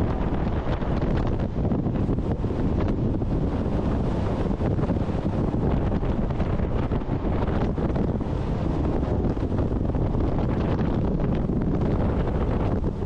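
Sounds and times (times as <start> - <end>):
boat rushing over water: 0.0 - 13.0
wind buffeting microphone: 0.0 - 13.0.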